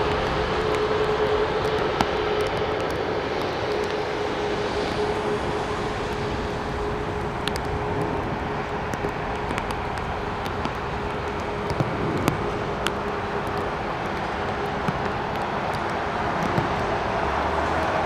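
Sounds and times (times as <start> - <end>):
faint clicks: 0.0 - 18.0
jet engines rushing: 0.0 - 18.0
steady hum: 0.0 - 18.0.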